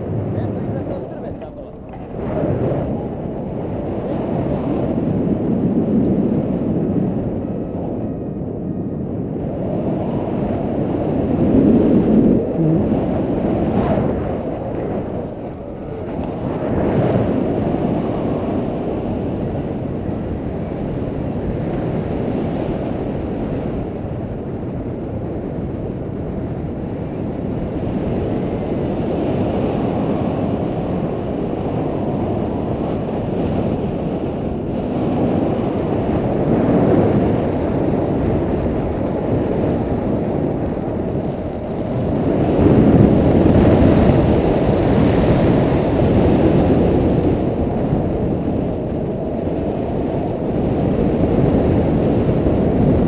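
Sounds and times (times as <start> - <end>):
wind noise on microphone: 0.0 - 53.0.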